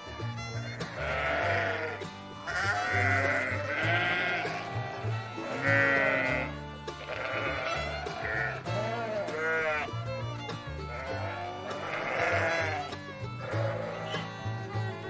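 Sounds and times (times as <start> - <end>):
background music with bass line: 0.0 - 15.0
sheep bleating: 0.0 - 15.0.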